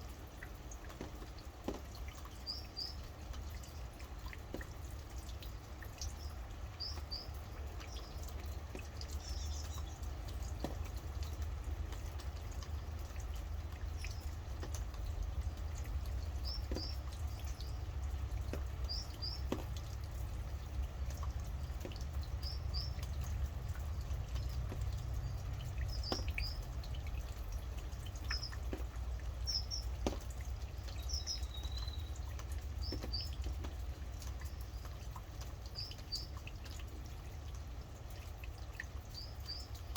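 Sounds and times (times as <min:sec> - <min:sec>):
rain dripping: 0:00.0 - 0:39.9.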